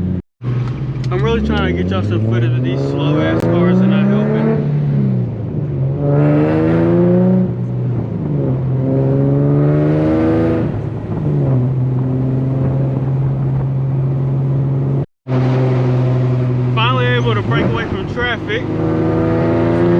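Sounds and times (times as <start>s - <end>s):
car engine accelerating through gears: 0.0s - 19.9s.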